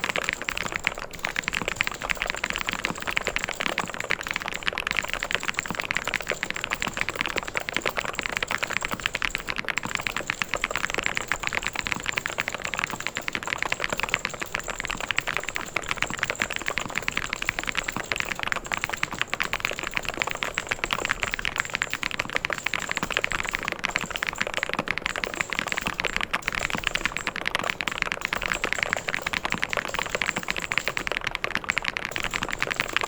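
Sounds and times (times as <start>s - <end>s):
mechanical keyboard typing: 0.0s - 33.0s.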